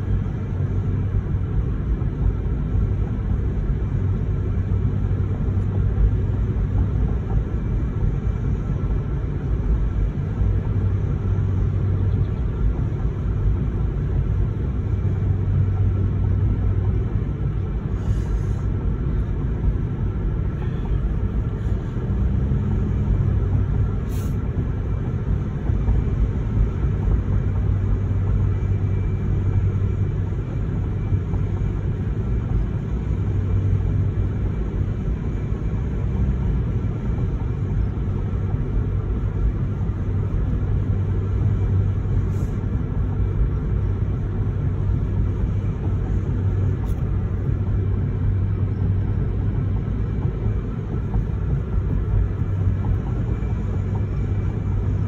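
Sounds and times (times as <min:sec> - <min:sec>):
car rumble inside cabin: 0:00.0 - 0:55.0.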